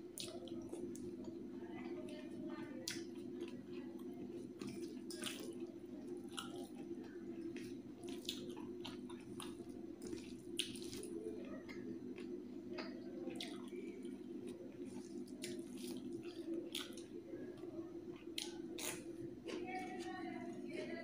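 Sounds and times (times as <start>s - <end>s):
steady low hum: 0.0s - 21.0s
wet squishing of food: 0.0s - 21.0s.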